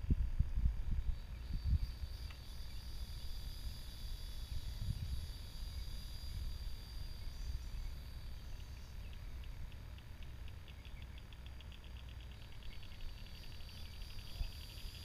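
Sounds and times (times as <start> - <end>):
high insect drone: 0.0 - 15.0
low wind rumble: 0.0 - 15.0.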